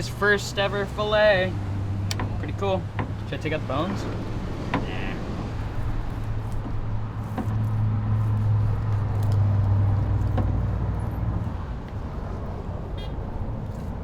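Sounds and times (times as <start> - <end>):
vehicle passing on highway: 0.0 - 14.0.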